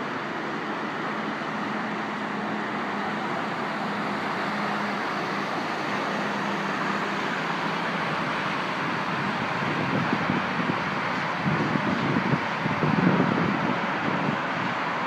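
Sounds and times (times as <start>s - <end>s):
freeway traffic roar: 0.0s - 15.0s.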